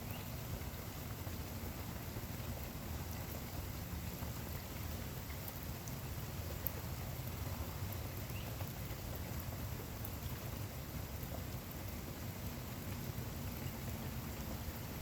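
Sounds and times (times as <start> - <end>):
raindrop ticks: 0.0 - 15.0
steady rainfall: 0.0 - 15.0.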